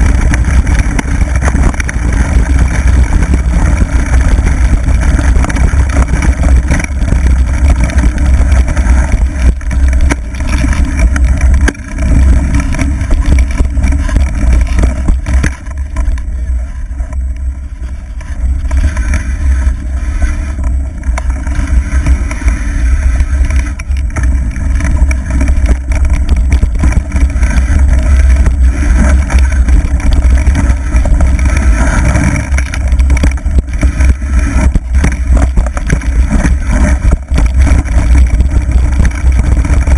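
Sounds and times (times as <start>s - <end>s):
bike tyres on dirt trail: 0.0s - 39.9s
wind rumble on microphone: 0.0s - 39.9s.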